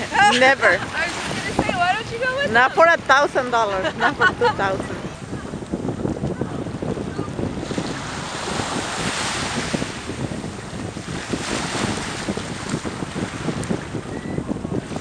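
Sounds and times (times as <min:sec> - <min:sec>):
small waves washing: 0:00.0 - 0:15.0
wind buffeting microphone: 0:00.0 - 0:15.0.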